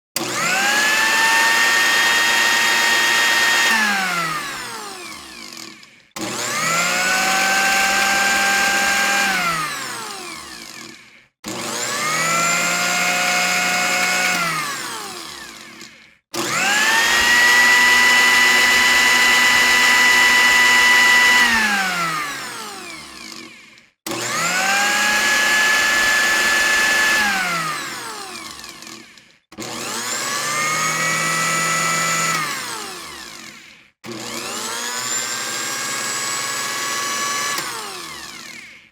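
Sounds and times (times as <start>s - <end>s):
blender motor whirring: 0.2s - 38.9s.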